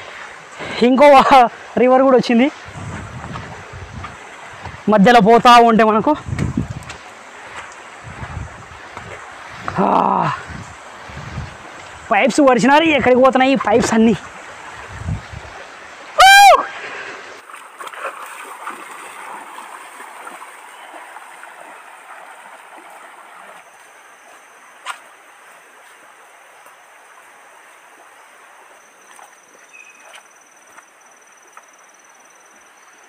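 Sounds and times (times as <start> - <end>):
stream water running over rocks: 0.0 - 33.0.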